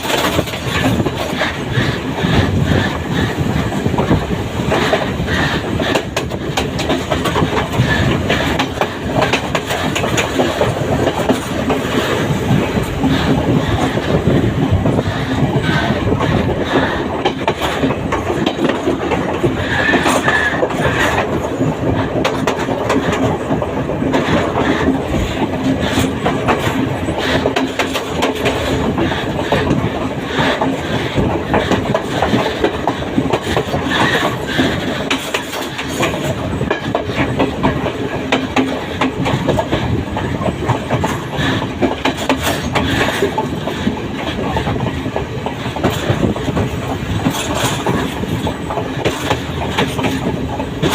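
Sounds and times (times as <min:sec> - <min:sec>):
train wheels clattering on rails: 0:00.0 - 0:50.9.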